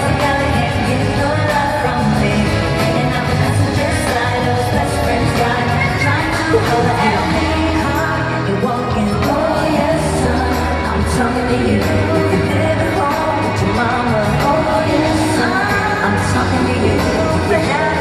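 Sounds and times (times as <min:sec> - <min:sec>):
women singing pop song: 0:00.0 - 0:18.0.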